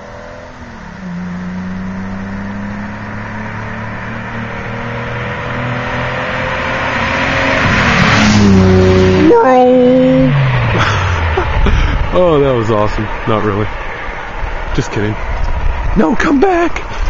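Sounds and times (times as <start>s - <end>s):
car engine accelerating: 0.0s - 16.7s.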